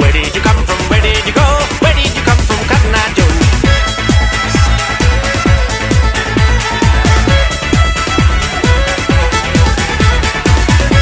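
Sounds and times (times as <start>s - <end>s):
kick drum beat: 0.0s - 11.0s.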